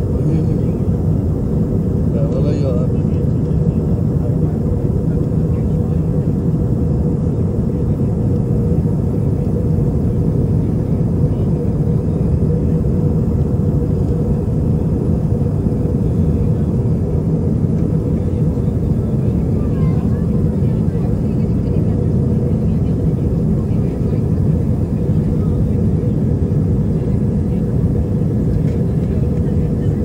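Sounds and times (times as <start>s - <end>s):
airliner engines and airflow rumble: 0.0s - 30.0s.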